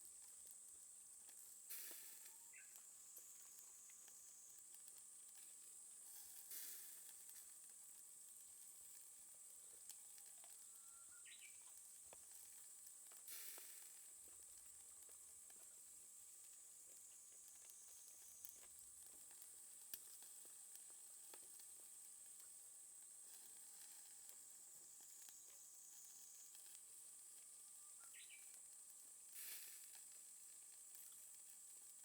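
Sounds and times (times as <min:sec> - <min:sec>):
charcoal fire sizzling and crackling: 0:00.0 - 0:32.0.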